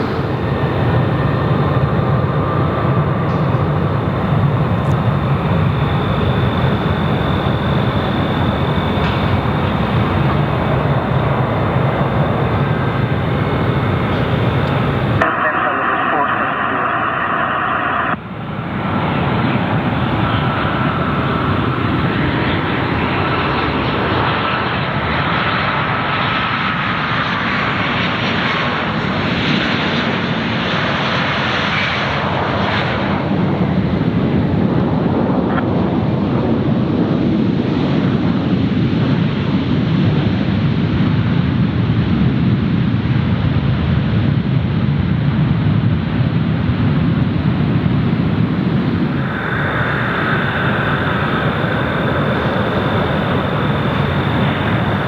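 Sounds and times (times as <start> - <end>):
high engine whine: 0.0 - 37.8, 45.7 - 55.0
jet engines roaring: 0.0 - 55.0.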